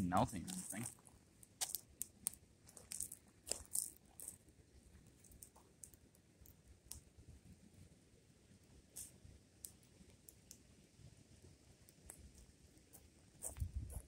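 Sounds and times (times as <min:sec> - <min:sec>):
small fire crackling: 0:00.0 - 0:14.0.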